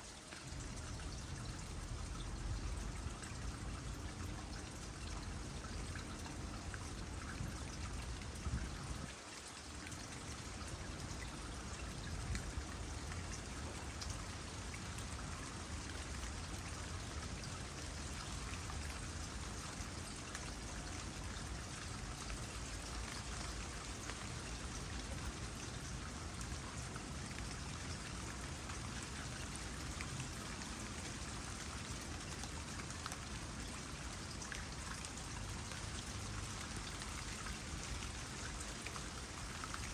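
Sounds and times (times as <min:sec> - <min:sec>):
light rain pattering on water: 0:00.0 - 0:39.9
water trickling into pond: 0:00.0 - 0:39.9.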